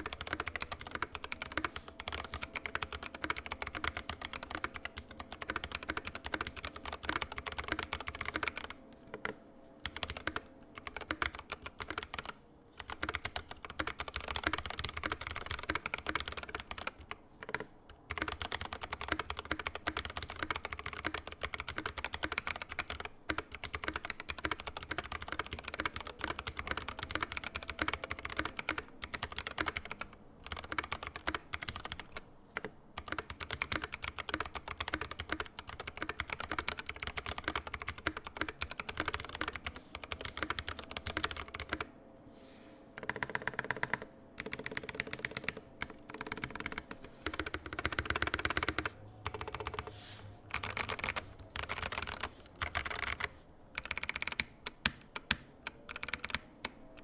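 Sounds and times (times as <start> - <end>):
mechanical keyboard typing: 0.0 - 41.9, 43.0 - 57.0.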